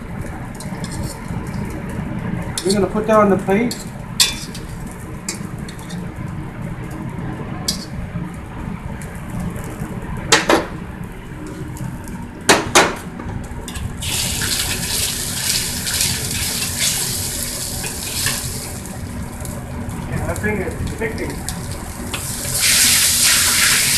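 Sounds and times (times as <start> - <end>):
wok burner running: 0.0 - 23.9.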